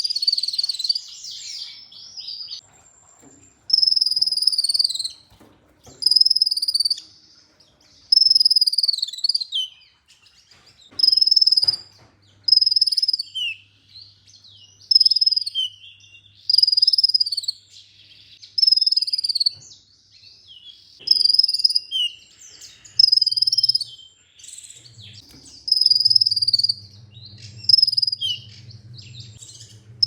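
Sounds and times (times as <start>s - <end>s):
bird trilling song: 0.0s - 2.6s, 3.7s - 30.0s
bird twittering: 0.0s - 2.6s, 3.7s - 5.3s, 5.9s - 7.2s, 8.1s - 19.6s, 20.6s - 30.0s.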